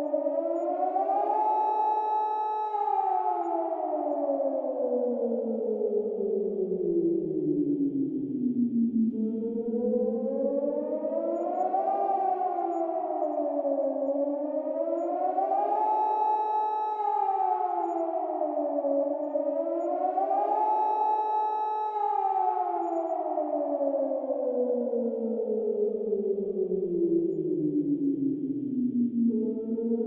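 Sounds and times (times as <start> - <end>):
warning siren wailing: 0.0 - 30.0.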